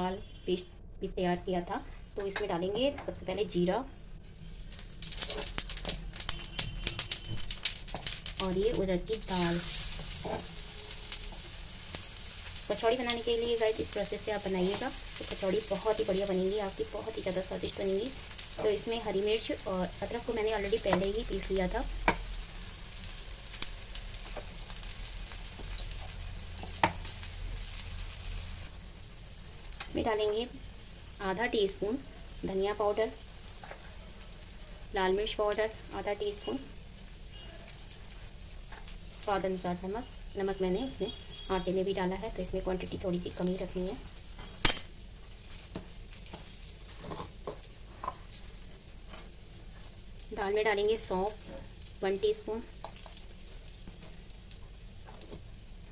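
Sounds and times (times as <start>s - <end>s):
food sizzling in hot oil: 4.1s - 55.9s.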